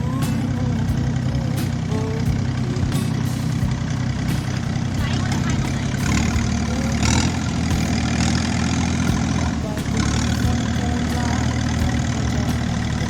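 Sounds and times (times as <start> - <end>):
engine humming: 0.0 - 13.0
faint voices: 0.0 - 13.0.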